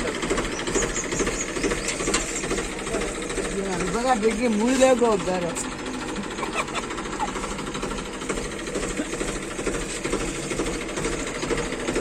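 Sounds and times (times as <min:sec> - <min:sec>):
engine running with fast clatter: 0:00.0 - 0:12.0.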